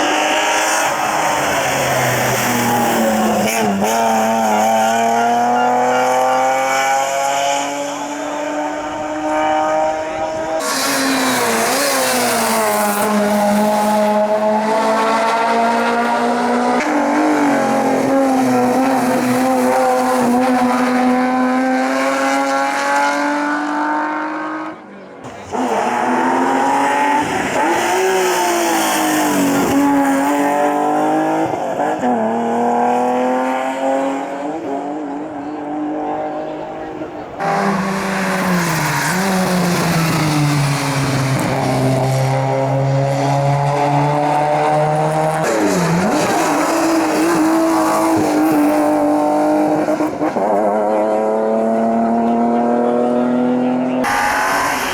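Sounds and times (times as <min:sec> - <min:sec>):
racing car engines accelerating: 0:00.0 - 0:54.9.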